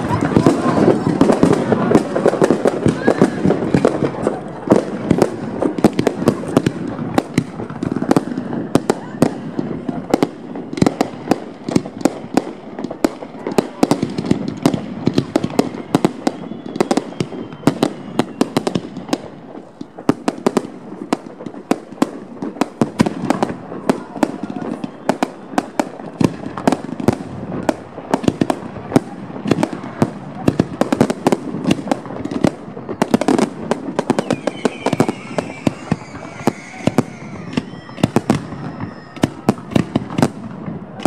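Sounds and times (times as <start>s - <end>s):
fireworks bangs: 0.0s - 41.0s
fireworks launches and crackle: 0.0s - 41.0s.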